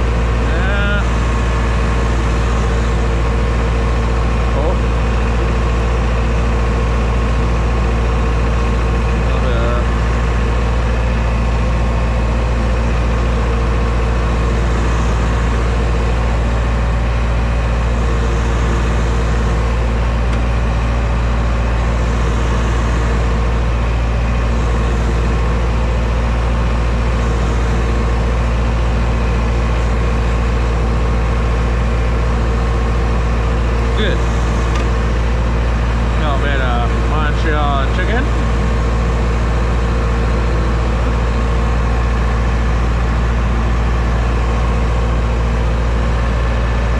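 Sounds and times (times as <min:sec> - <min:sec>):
machinery droning: 0:00.0 - 0:46.9.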